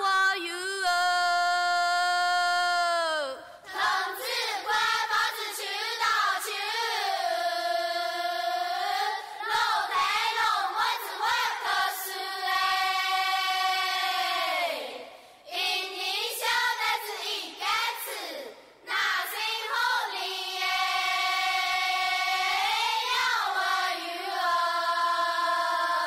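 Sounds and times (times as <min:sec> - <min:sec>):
women singing together: 0:00.0 - 0:26.0.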